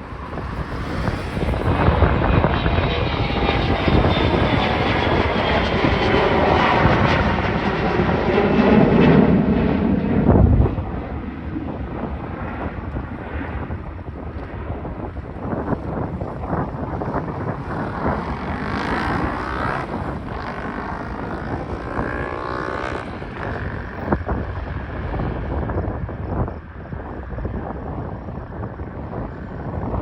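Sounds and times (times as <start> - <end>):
jet engines roaring with whine: 0.0 - 30.0.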